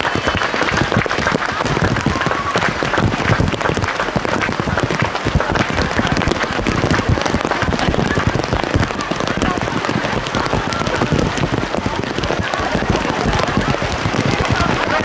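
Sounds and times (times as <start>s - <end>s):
crowd applauding: 0.0s - 15.0s
rain on plastic cover: 0.0s - 15.0s.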